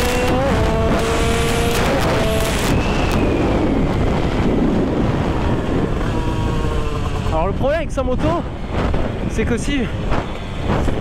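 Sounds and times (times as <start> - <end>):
two-stroke motorcycle engine revving: 0.0 - 9.2
wind rush: 0.0 - 11.0.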